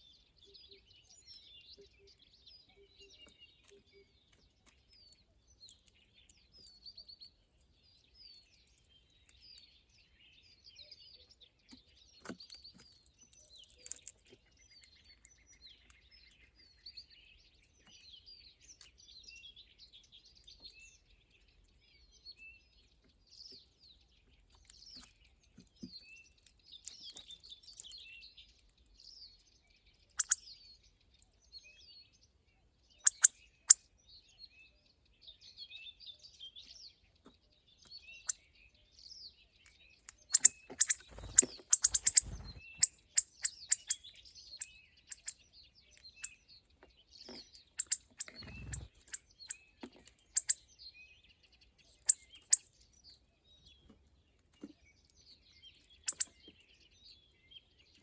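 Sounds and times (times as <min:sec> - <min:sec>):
bird trill: 0:00.0 - 0:22.9, 0:25.9 - 0:31.0, 0:32.9 - 0:36.8, 0:37.8 - 0:53.7, 0:55.3 - 0:57.8
small birds chirping: 0:00.0 - 0:58.0.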